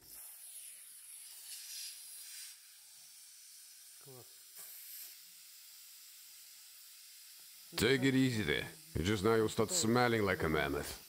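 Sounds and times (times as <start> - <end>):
steam hissing: 0.0 - 5.6, 6.5 - 11.0.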